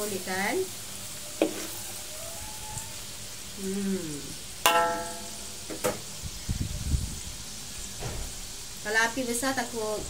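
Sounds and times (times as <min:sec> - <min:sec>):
peanuts frying in hot oil: 0:00.0 - 0:10.0.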